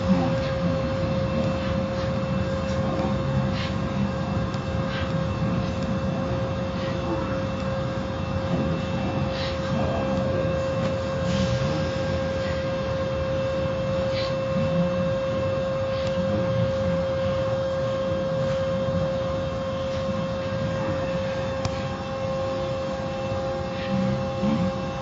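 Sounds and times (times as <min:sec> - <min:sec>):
car wash machinery droning: 0:00.0 - 0:25.0.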